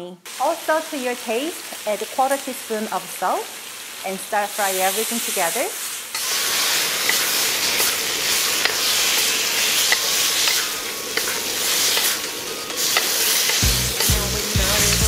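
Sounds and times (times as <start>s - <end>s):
tomatoes sizzling in oil: 0.2s - 15.0s.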